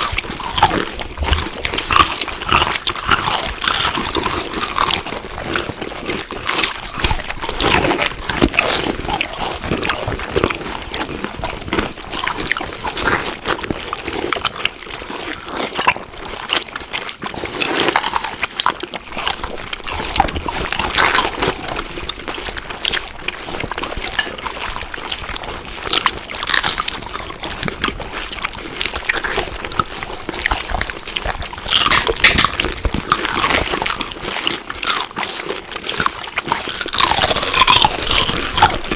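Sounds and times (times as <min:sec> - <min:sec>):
chewing and eating: 0:00.0 - 0:38.9.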